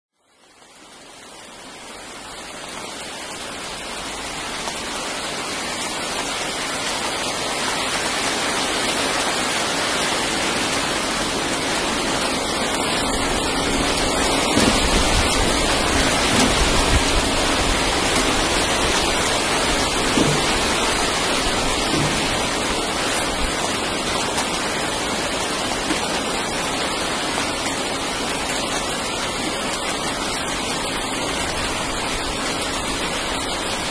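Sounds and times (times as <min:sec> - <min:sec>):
rain hissing: 0:00.3 - 0:33.9.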